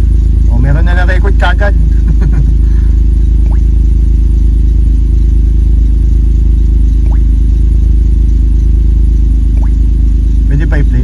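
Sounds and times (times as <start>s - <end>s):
car engine idling: 0.0s - 11.0s
faint rising chirps: 1.8s - 11.0s.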